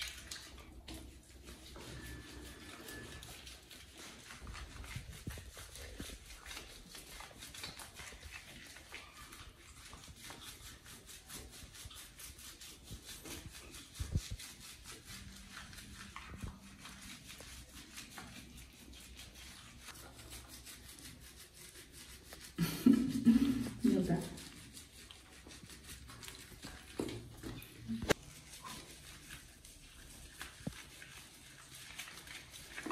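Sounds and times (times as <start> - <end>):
hands rubbing wet fur: 0.0 - 32.9.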